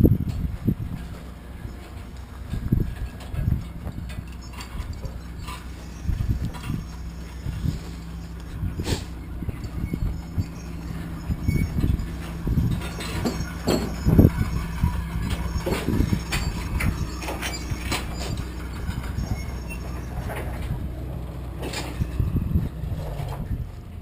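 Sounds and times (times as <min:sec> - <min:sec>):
metallic knocks and clanks: 0:00.0 - 0:23.6
heavy engine idling: 0:00.0 - 0:24.0.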